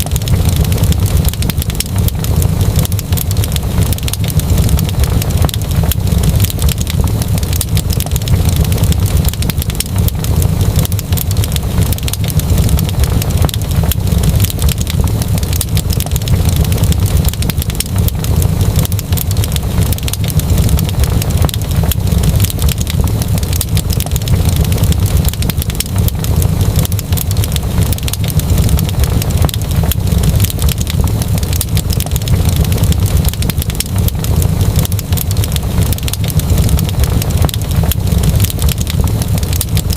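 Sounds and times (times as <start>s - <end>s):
low rumble: 0.0s - 39.9s
wood fire crackling and popping: 0.0s - 39.9s.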